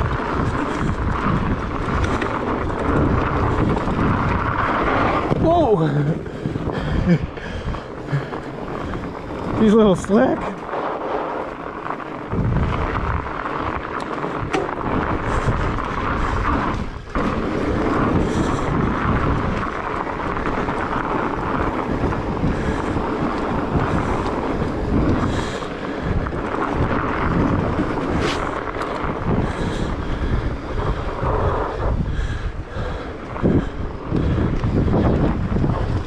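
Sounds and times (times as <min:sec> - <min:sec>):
bike tires rolling on snow: 0:00.0 - 0:36.0
wind buffeting microphone: 0:00.0 - 0:36.0.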